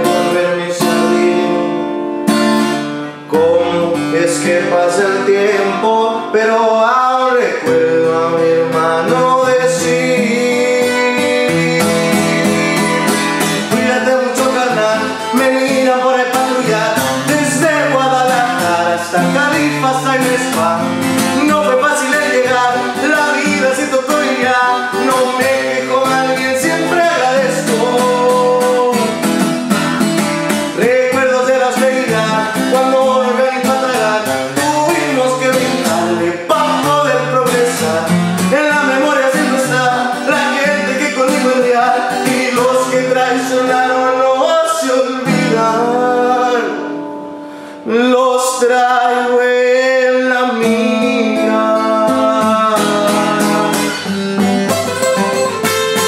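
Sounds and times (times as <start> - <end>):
man singing: 0.0 - 2.0, 2.7 - 56.0
acoustic guitar: 0.0 - 56.0.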